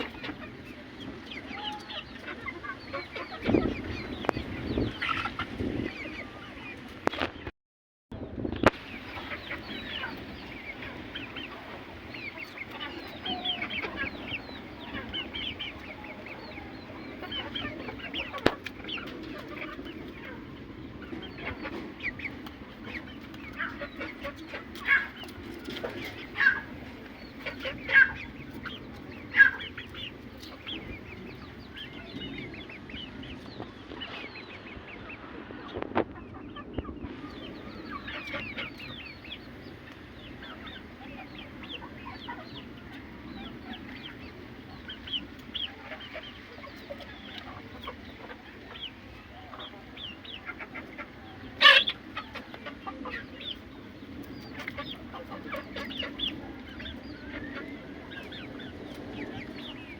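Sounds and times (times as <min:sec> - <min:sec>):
chickens clucking: 0:00.0 - 0:07.5, 0:08.5 - 0:59.9.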